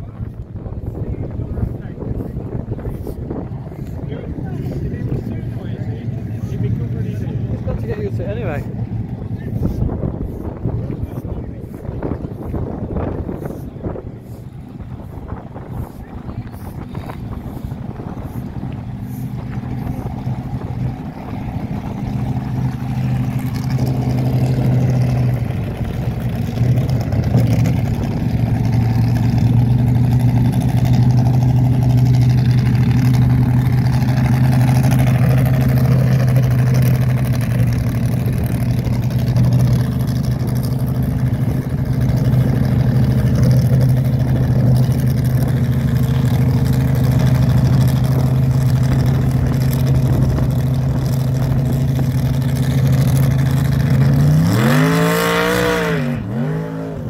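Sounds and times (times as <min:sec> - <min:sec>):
drag car engine idling: 0:00.0 - 0:54.7.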